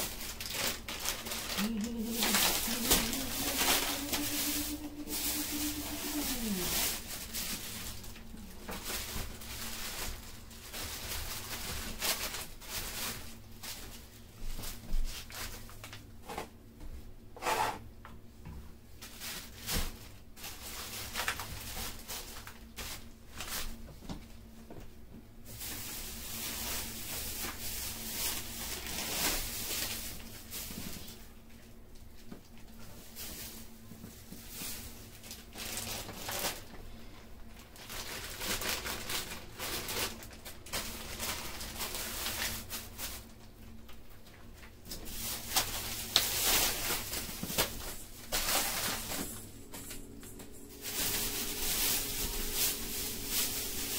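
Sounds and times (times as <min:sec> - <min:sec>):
plastic bags rustling: 0:00.0 - 0:16.0, 0:19.0 - 0:24.0, 0:25.5 - 0:53.9.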